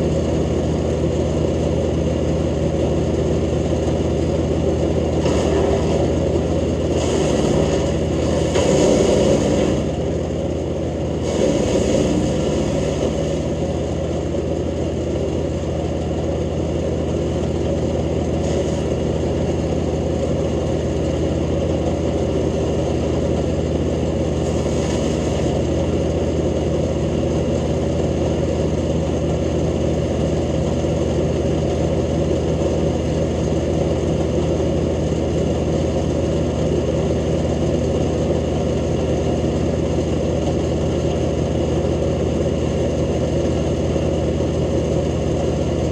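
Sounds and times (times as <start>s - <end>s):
wood chipper engine running: 0.0s - 45.9s.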